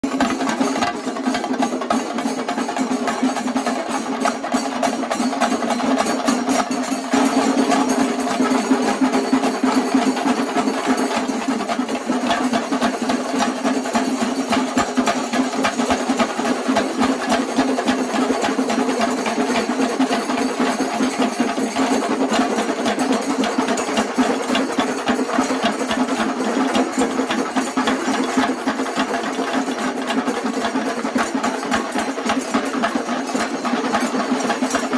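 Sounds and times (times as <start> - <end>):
hand cymbals: 0.0 - 34.9
rapid drumming with sticks: 0.0 - 34.9.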